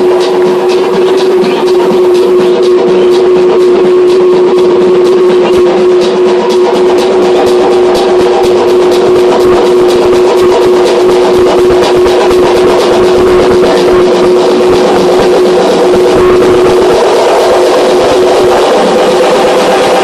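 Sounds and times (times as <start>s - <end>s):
loud dance music with beat: 0.0s - 20.0s.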